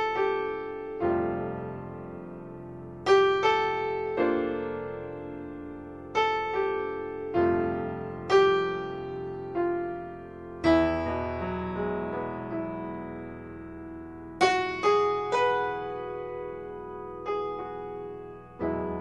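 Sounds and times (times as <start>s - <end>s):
slow piano notes and chords: 0.0s - 19.0s.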